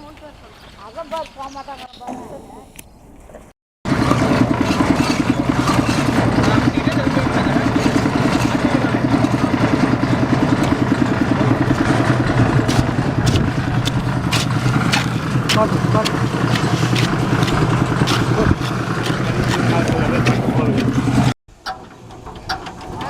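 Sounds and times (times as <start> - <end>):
engine running with fast pulse: 3.9 - 23.0
sharp knocks: 3.9 - 23.0.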